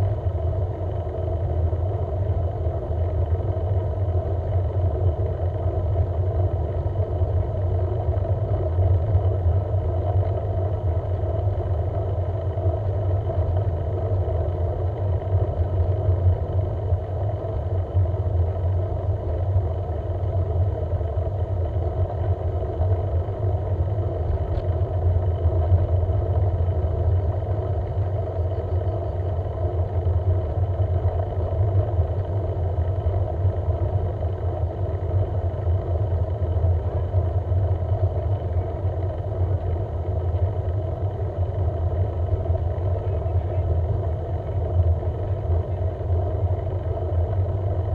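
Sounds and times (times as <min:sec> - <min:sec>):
low road travel rumble: 0:00.0 - 0:47.9.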